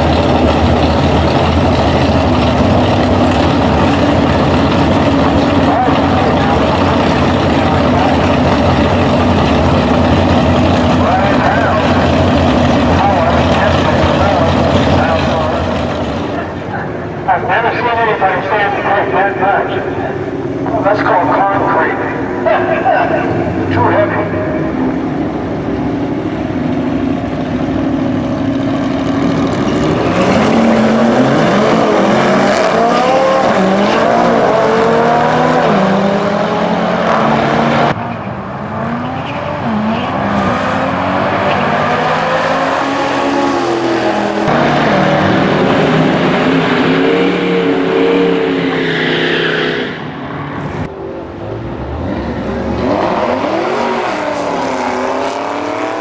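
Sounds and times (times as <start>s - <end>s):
race cars accelerating hard: 0.0s - 56.0s.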